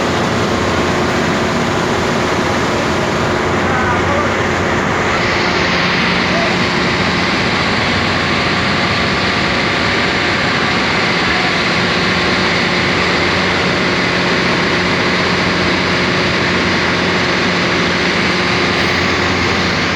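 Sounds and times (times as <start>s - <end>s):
broad rushing noise: 0.0s - 19.9s
ship engine humming: 0.0s - 19.9s.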